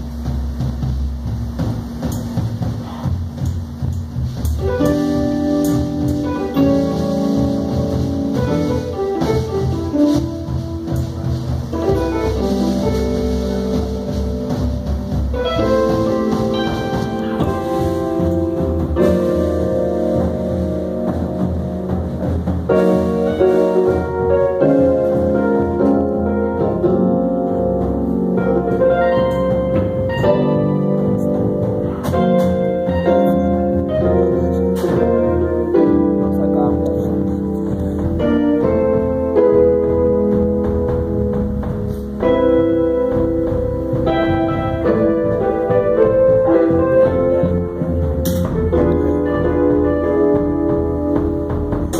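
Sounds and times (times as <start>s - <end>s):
electric keyboard chords: 0.0s - 51.9s
jazz fusion band playing: 0.0s - 51.9s.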